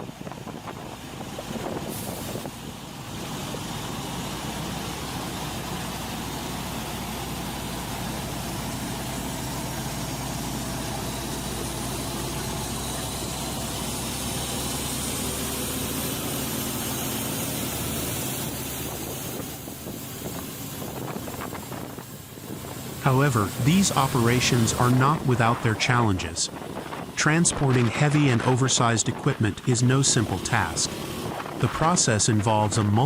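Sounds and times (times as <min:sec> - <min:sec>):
heavy vehicle engine running: 0:00.0 - 0:33.0.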